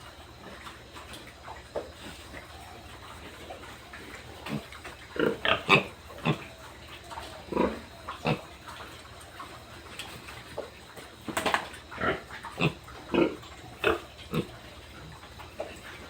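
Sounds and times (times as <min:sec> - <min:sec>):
pigs grunting: 0:00.0 - 0:16.0.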